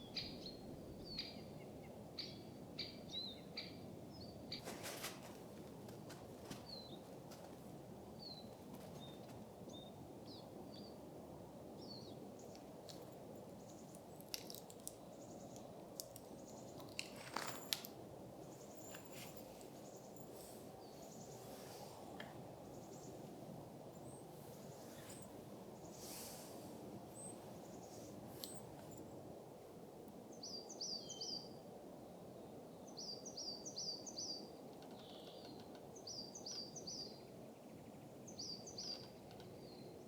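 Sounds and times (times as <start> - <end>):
steady low hiss: 0.0 - 40.0.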